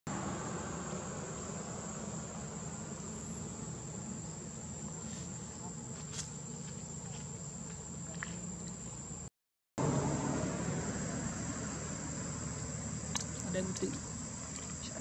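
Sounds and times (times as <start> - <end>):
insects droning: 0.1 - 15.0.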